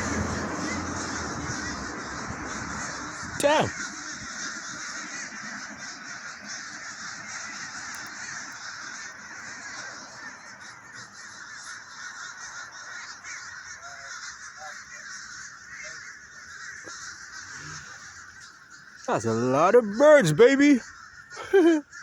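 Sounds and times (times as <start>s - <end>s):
flock of birds calling: 0.0s - 22.0s.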